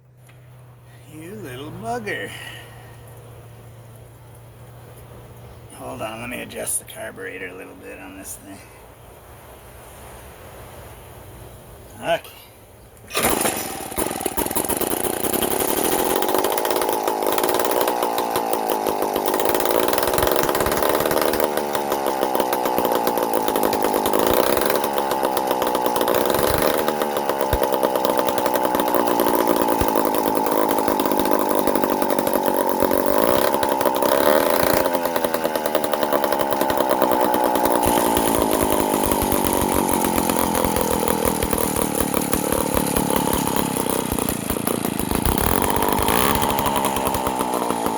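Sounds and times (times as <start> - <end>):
chainsaw engine running unevenly: 0.0 - 8.7, 13.1 - 47.9.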